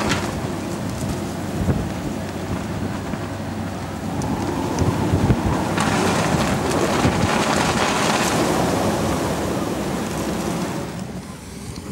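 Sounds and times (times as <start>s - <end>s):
wind blowing across microphone: 0.0s - 11.9s.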